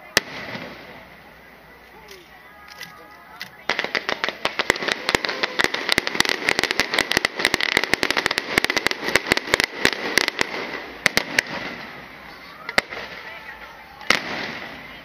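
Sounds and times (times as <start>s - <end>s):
fireworks popping and crackling: 0.0s - 15.0s.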